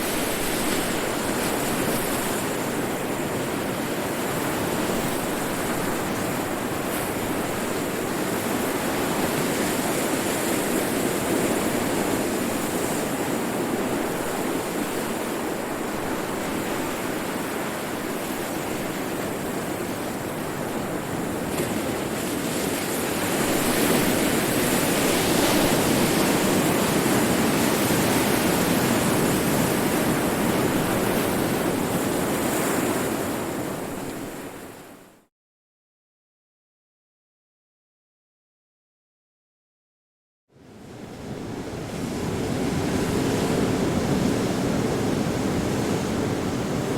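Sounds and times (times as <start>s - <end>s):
ocean waves breaking: 0.0s - 35.1s, 41.0s - 46.9s.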